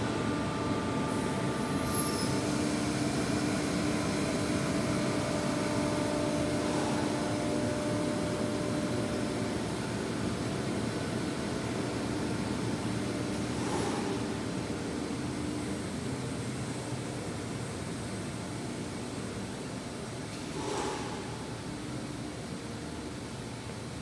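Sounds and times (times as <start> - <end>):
factory machinery drone: 0.0 - 24.0.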